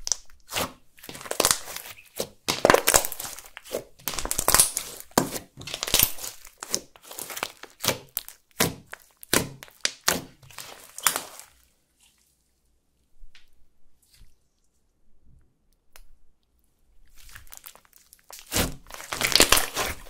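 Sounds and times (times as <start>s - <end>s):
slime crackling and squelching: 0.0s - 13.1s, 16.5s - 20.0s.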